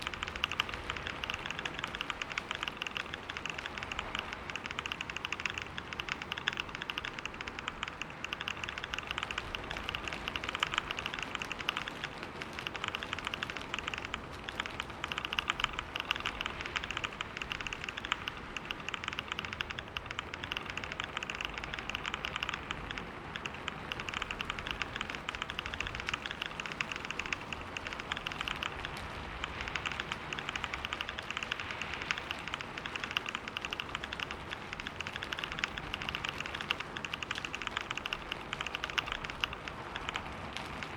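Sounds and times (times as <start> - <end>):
fast typing on keyboard: 0.0 - 40.9.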